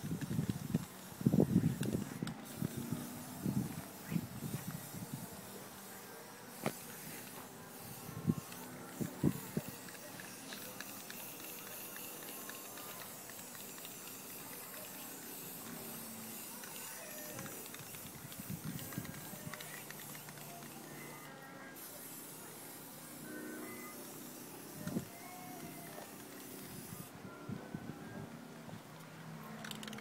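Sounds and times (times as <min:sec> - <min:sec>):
aerosol spray can hissing: 0:00.1 - 0:21.1, 0:21.8 - 0:27.1.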